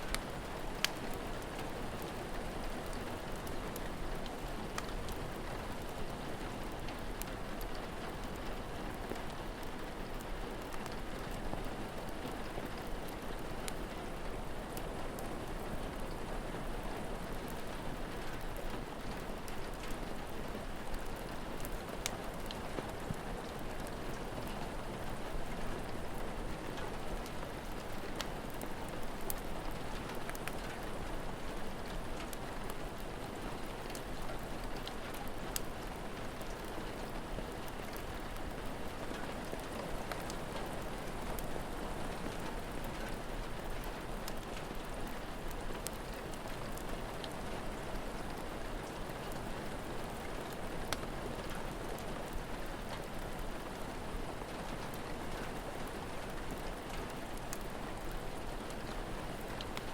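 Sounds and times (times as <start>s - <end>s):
steady rain falling: 0.0s - 59.9s
wood fire crackling: 0.1s - 59.9s.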